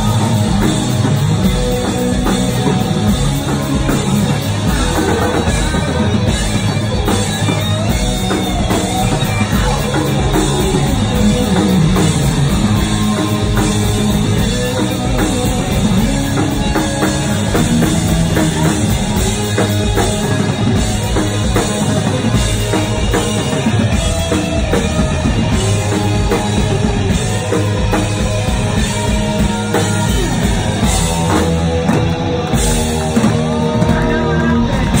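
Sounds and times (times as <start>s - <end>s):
drum kit: 0.0s - 35.0s
electric bass: 0.0s - 35.0s
electric guitar: 0.0s - 35.0s.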